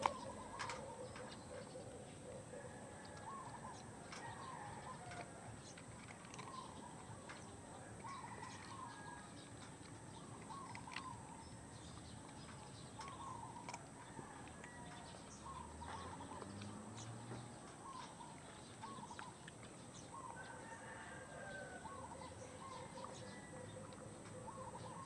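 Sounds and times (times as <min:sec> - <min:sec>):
faint wavering bird calls: 0:00.0 - 0:25.0
steady outdoor hiss: 0:00.0 - 0:25.0.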